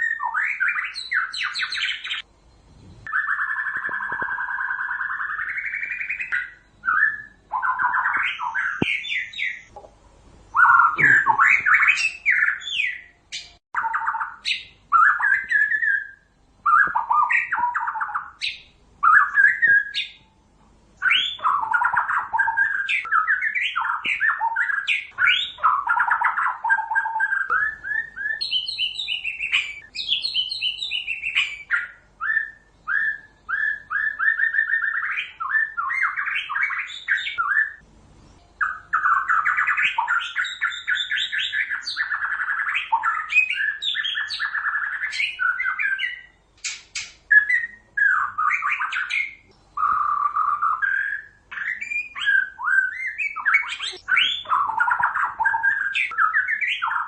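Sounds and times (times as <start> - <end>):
shama singing whistled phrases: 0.0 - 2.3, 3.1 - 9.7, 10.5 - 20.4, 21.0 - 37.8, 38.6 - 57.0.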